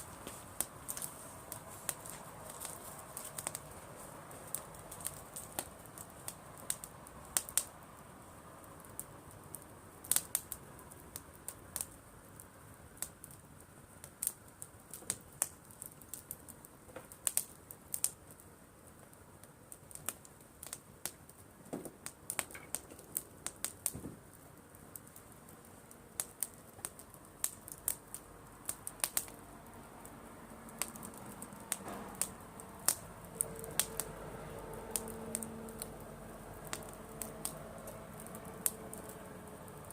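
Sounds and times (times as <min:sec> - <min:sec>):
campfire crackling and popping: 0:00.0 - 0:39.9
faint steady hiss: 0:00.0 - 0:39.9.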